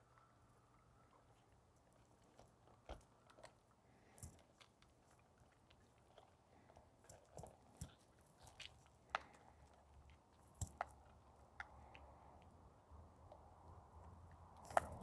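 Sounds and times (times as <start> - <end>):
dogs gnawing on branch: 0.2 - 15.0.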